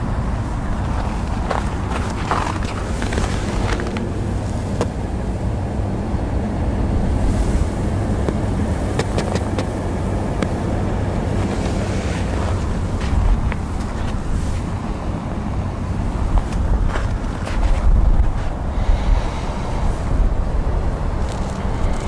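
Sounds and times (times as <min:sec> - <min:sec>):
car engine idling: 0:00.0 - 0:17.8
wind noise on microphone: 0:00.0 - 0:22.0.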